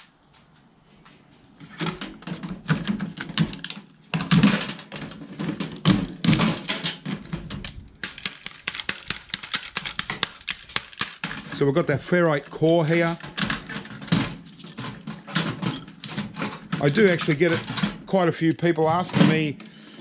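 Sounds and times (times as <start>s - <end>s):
clicks cracks and scraping: 1.6s - 19.8s.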